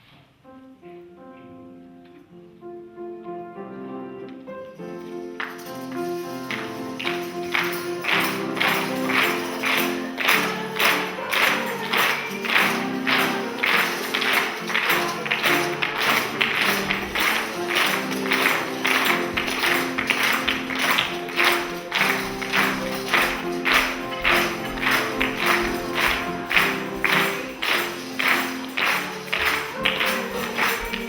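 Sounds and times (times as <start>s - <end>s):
instrumental music with percussion beat: 5.4s - 31.0s.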